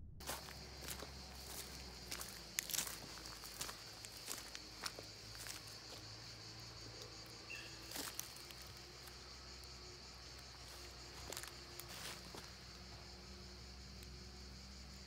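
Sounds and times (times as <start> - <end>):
footsteps on stony ground: 0.2 - 9.6, 10.3 - 13.2
insects chirring: 0.2 - 15.0.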